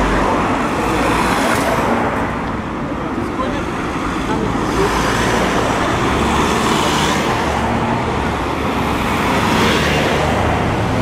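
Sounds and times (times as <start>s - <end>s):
vans driving past: 0.0s - 11.0s.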